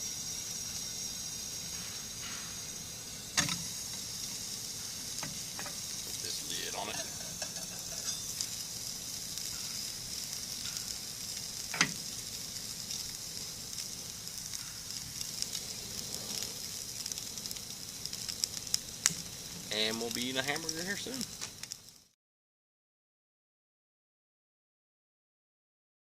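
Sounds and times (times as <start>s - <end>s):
meat sizzling in a skillet: 0.0s - 22.2s.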